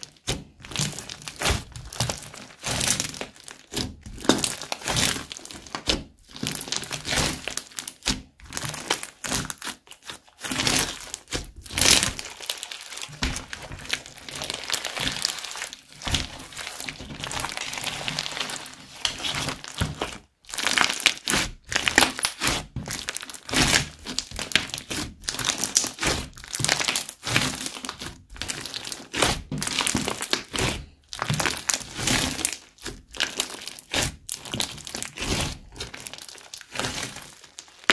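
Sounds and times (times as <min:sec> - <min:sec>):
crunchy slime crackling and popping: 0:00.0 - 0:37.9.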